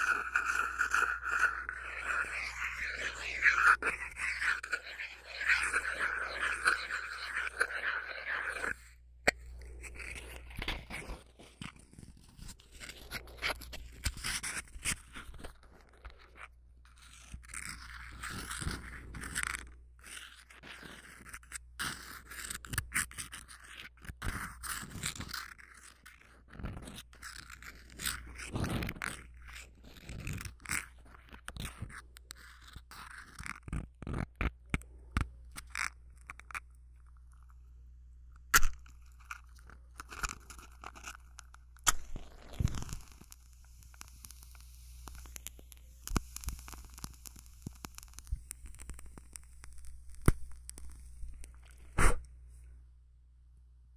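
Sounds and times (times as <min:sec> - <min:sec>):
matchbox scraping and clicking: 0:00.0 - 0:37.5, 0:38.5 - 0:52.3.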